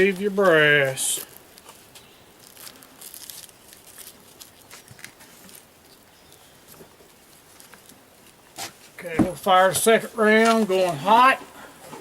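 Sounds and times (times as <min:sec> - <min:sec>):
faint rustling: 0:00.0 - 0:12.0.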